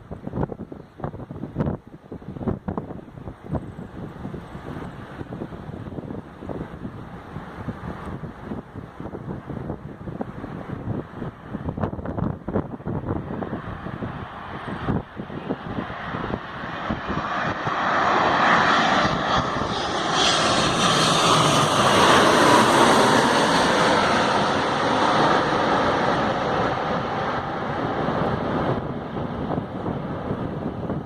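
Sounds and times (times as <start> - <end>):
jet engine whine: 0.0 - 31.0
jet engines passing: 0.0 - 31.0.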